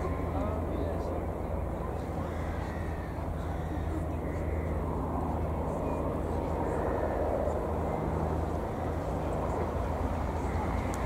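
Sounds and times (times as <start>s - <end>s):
biplane engines droning: 0.0s - 11.0s.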